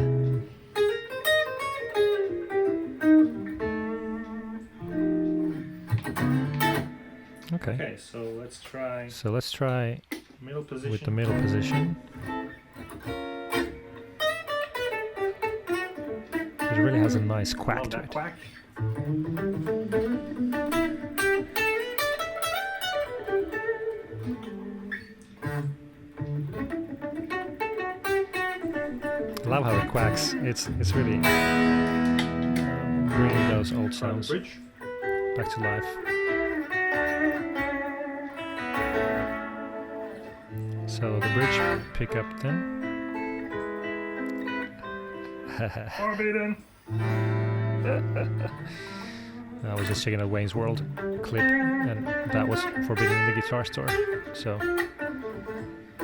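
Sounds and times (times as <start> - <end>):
electric guitar chords: 0.0 - 7.6, 11.2 - 56.0
electric guitar jazz line: 0.0 - 7.8, 10.8 - 56.0.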